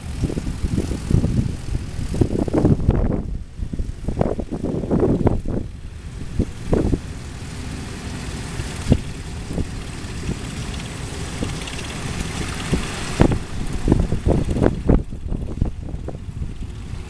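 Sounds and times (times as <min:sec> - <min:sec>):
tractor engines rumbling: 0:00.0 - 0:17.0.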